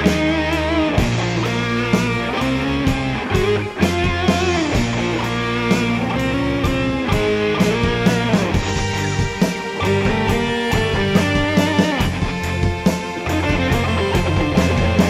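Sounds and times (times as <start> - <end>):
bass and keyboards: 0.0 - 15.0
lead electric guitar melody: 0.0 - 15.0.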